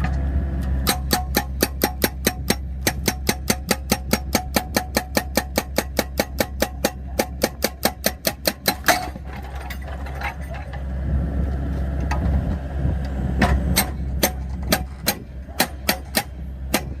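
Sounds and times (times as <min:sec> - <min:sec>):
hydraulic breaker hammering logs: 0:00.0 - 0:10.6, 0:13.4 - 0:17.0
diesel engine hum: 0:00.0 - 0:17.0.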